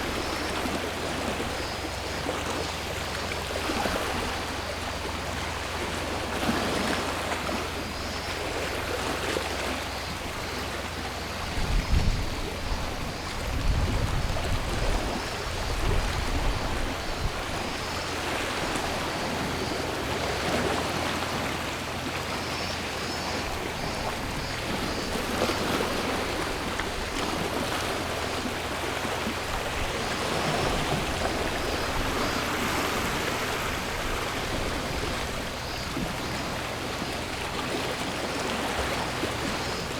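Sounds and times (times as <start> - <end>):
cicadas buzzing: 0.0 - 39.9
sea waves washing onto shore: 0.0 - 39.9.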